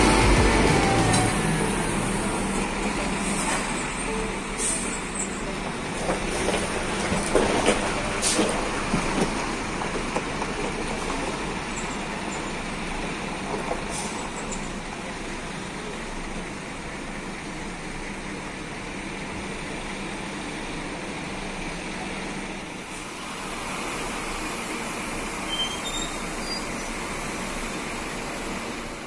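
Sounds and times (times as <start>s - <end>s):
diesel bus engine running: 0.0s - 29.0s.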